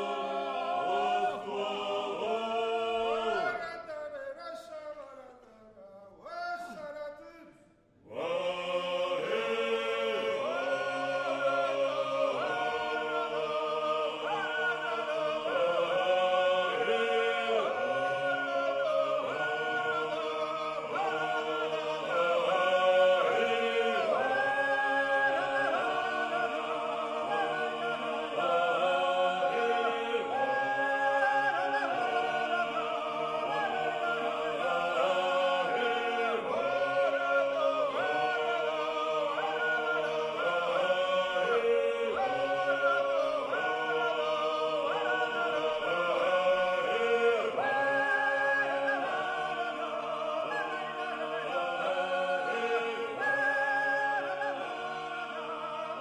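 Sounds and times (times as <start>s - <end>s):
choir singing: 0.0s - 4.4s, 8.0s - 56.0s.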